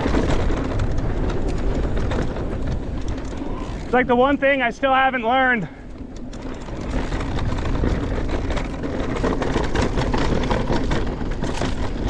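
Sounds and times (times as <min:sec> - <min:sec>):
bike clicks and rattles: 0:00.0 - 0:12.0
wind and tyre noise: 0:00.0 - 0:12.0.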